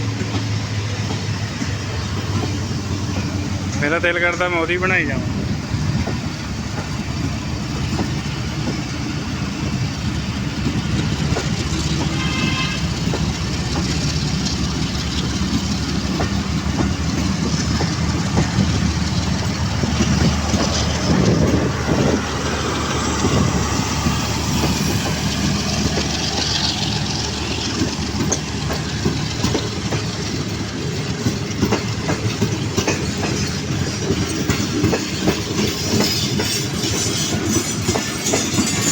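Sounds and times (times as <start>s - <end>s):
train rumbling past: 0.0s - 38.9s
wheels clicking over rail joints: 0.0s - 38.9s.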